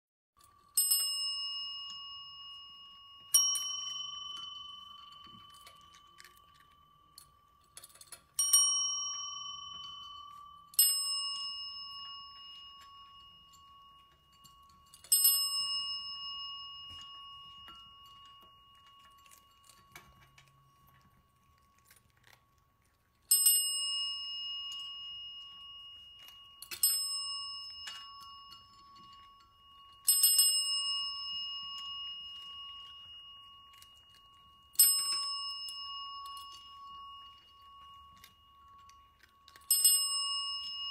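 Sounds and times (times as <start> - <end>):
desk service bell ringing: 0.4 - 20.8, 23.3 - 40.9.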